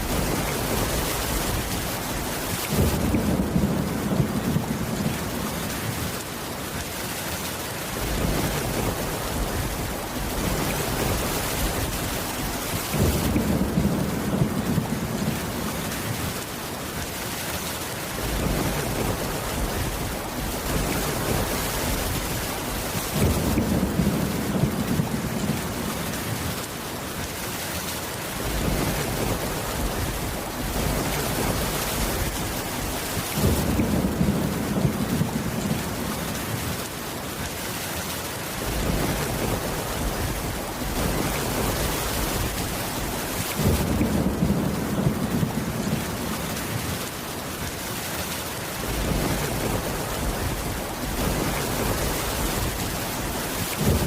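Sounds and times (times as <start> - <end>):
rolling thunder rumbles: 0.0 - 6.2, 7.9 - 16.4, 18.2 - 26.6, 28.4 - 36.8, 38.6 - 47.1, 48.8 - 54.0
heavy rain: 0.0 - 54.0.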